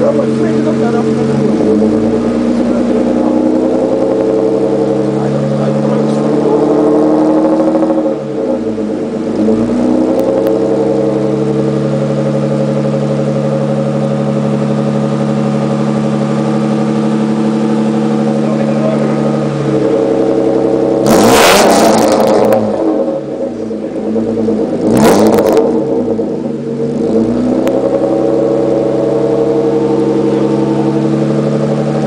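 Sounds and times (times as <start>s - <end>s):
car engine exhaust note: 0.0s - 32.0s.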